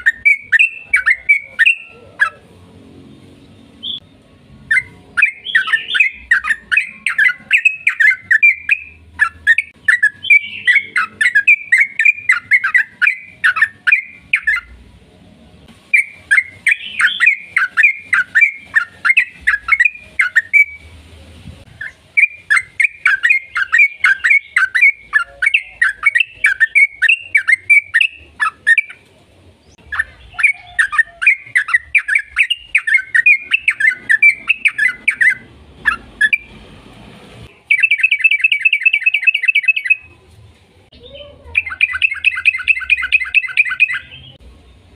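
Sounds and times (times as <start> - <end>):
bird chattering song: 0.0 - 2.5, 4.7 - 14.8, 15.9 - 20.9, 21.8 - 36.6, 37.5 - 40.1, 40.9 - 44.4.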